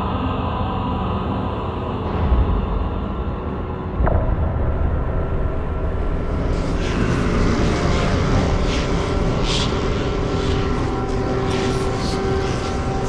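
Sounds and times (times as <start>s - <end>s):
rumbling electronic drone: 1.9s - 13.0s.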